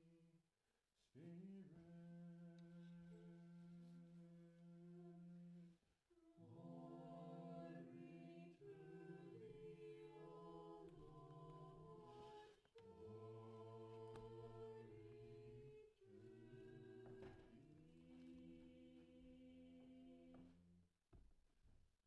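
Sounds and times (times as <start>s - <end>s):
choir singing a cappella: 1.2s - 20.5s.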